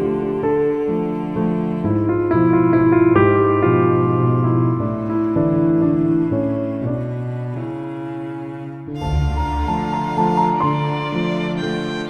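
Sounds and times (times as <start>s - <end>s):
slow gentle string music: 0.0s - 12.0s.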